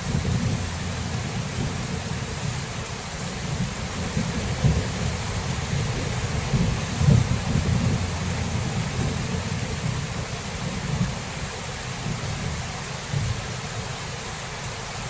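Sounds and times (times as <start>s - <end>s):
low thunder rumbling: 0.0s - 13.5s
rain hissing: 0.0s - 15.0s.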